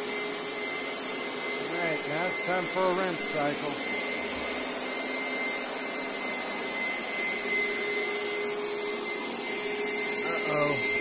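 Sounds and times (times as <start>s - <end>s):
carpet cleaner motor whining: 0.0s - 11.0s.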